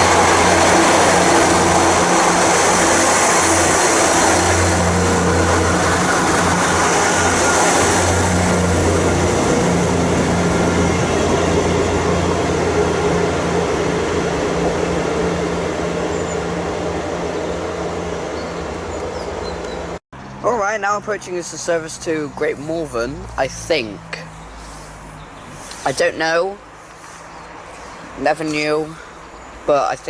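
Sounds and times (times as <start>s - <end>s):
train rushing noise: 0.0s - 29.0s
diesel train engine hum: 0.0s - 30.0s.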